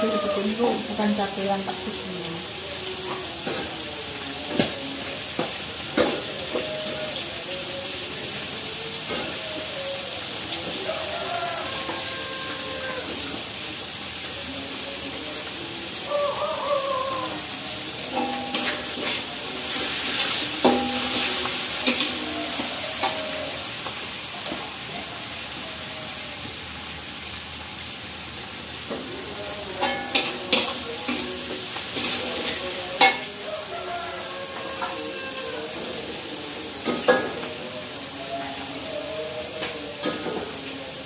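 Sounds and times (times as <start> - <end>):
chillies sizzling in hot oil: 0.0 - 41.0.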